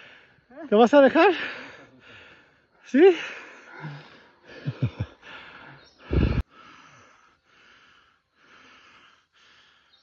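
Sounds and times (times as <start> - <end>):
person panting hard: 1.3 - 10.0.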